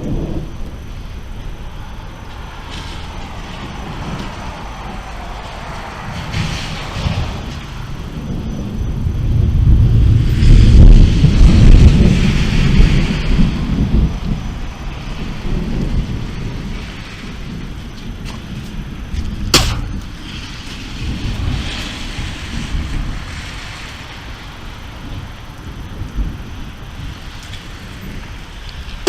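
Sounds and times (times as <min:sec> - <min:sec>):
rain falling: 0:00.0 - 0:29.0
thunder rumbling: 0:00.0 - 0:29.0.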